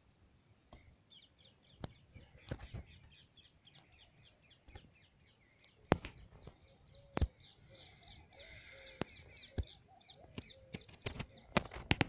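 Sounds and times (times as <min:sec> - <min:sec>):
birds chirping: 0:00.6 - 0:12.0.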